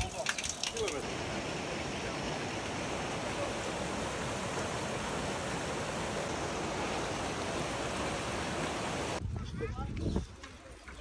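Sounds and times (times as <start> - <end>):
stream rushing over rocks: 0.0 - 9.2.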